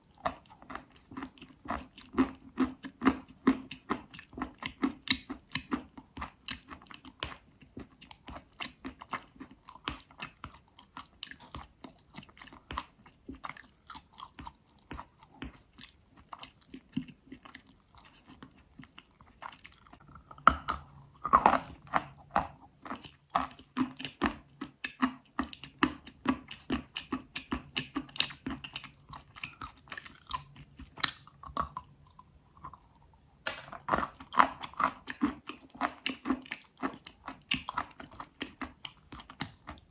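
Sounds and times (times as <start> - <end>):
chalk being bitten and chewed: 0.0 - 39.9.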